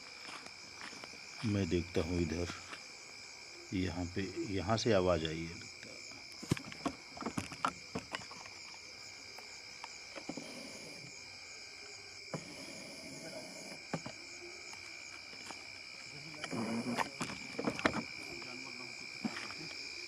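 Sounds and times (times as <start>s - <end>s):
night insects shrilling: 0.0s - 20.0s.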